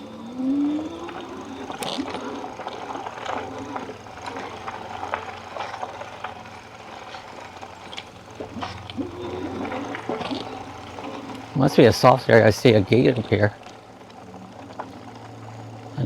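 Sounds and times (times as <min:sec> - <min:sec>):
electric motor hum: 0:00.0 - 0:16.0
tyres crunching on dirt: 0:00.0 - 0:16.0.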